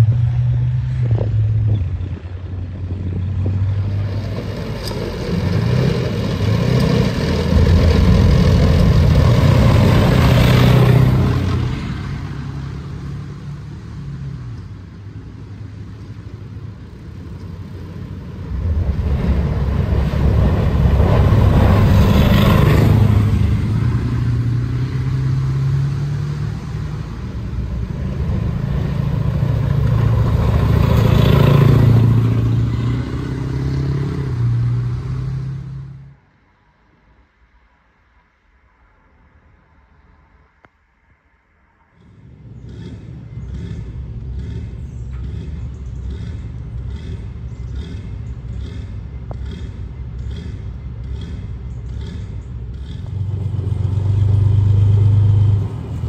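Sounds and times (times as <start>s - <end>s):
heavy vehicles crossing steel bridge: 0.0s - 36.5s, 41.1s - 56.0s.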